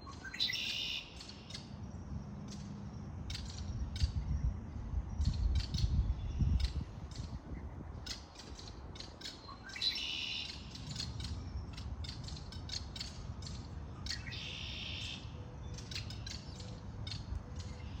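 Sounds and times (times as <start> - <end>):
songbird chip notes: 3.3 - 18.0.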